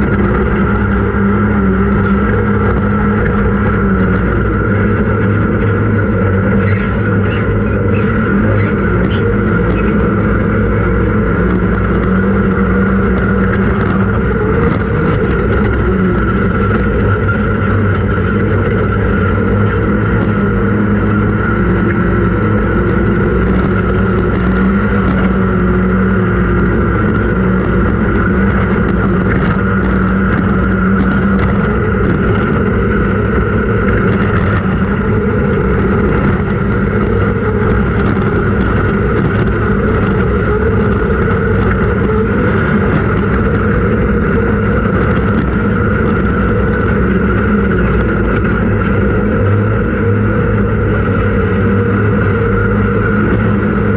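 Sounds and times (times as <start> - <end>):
low rumble: 0.0 - 53.9
race vehicle engine running hard: 0.0 - 53.9.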